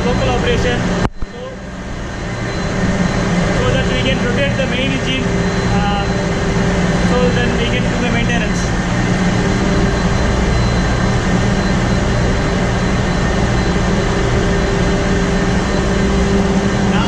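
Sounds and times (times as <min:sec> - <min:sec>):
constant hum: 0:00.0 - 0:17.0
ship diesel engine drone: 0:00.0 - 0:17.0.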